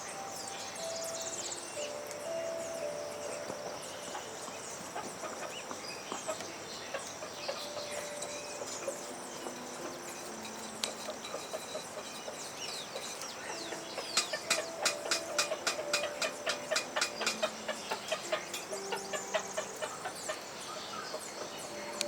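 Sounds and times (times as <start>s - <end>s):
birds chirping: 0.0s - 22.0s
sharp clicking bird calls: 0.0s - 22.0s.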